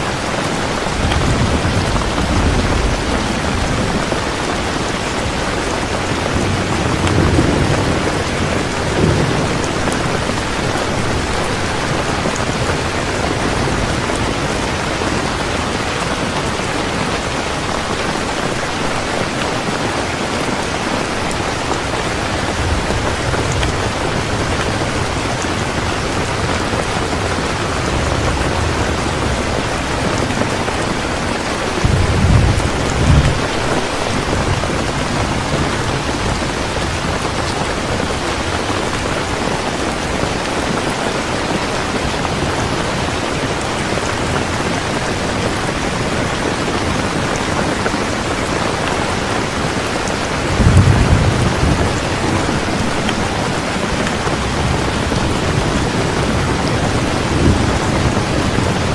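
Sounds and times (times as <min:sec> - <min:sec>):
heavy rain falling: 0:00.0 - 0:58.9
low thunder rumbles: 0:00.1 - 0:19.8, 0:20.4 - 0:42.9, 0:49.5 - 0:58.9.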